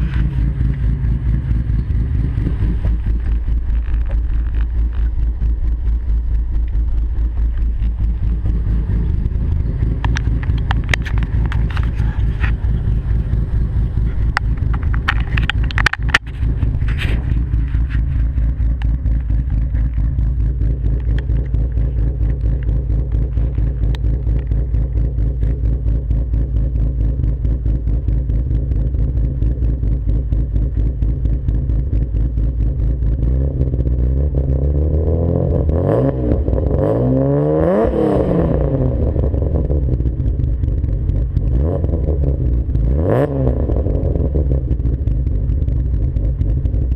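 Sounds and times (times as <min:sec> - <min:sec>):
engine knocks: 0:00.0 - 0:34.0, 0:38.8 - 0:46.9
car engine revving: 0:00.0 - 0:46.9.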